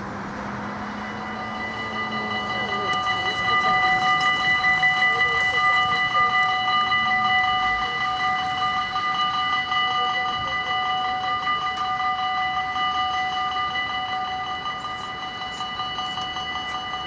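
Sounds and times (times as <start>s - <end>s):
level crossing warning bell ringing: 0.0s - 17.0s.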